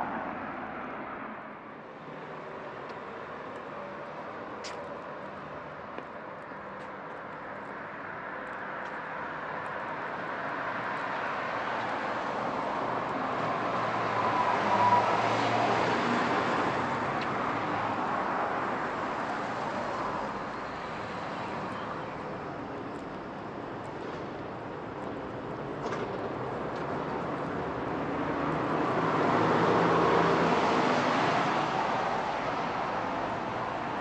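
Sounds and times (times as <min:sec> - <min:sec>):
vehicle passing on street: 0:00.0 - 0:34.0.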